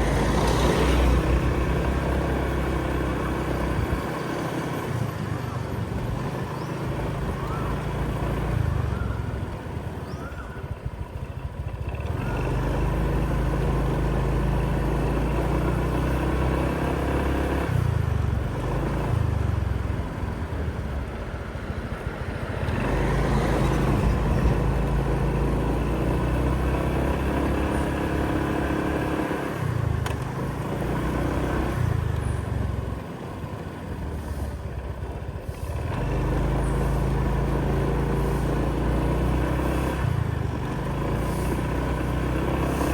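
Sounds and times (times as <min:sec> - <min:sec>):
vehicle engine running: 0:00.0 - 0:42.9.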